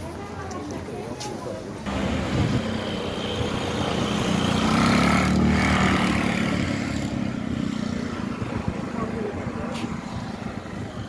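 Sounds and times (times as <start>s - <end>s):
motor vehicle passing by: 1.9s - 11.0s.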